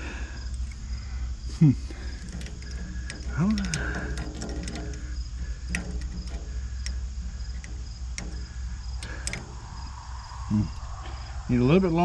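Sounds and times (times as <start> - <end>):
sharp clicks: 0.0 - 1.2, 1.9 - 11.1
crickets chirping: 0.0 - 12.0.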